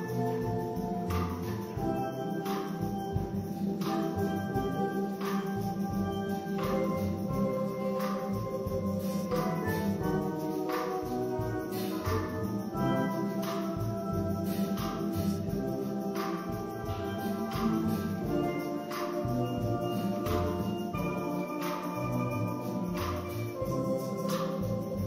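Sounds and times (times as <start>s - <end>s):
regular percussion hits: 0.0s - 25.0s
steel band playing: 0.0s - 25.0s.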